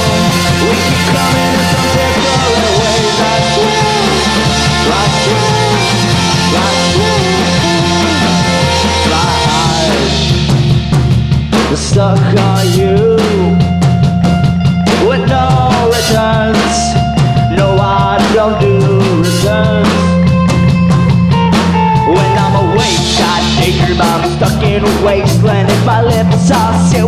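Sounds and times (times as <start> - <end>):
bass guitar: 0.0 - 27.0
drum kit: 0.0 - 27.0
electric guitars: 0.0 - 27.0.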